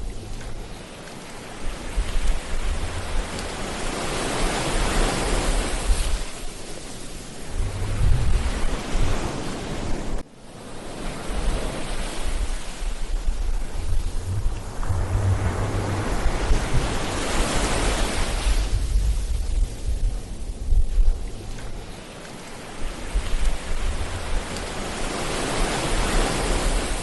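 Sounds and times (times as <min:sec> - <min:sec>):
wind buffeting microphone: 0:00.0 - 0:10.2, 0:11.2 - 0:27.0
waves breaking on beach: 0:00.0 - 0:27.0.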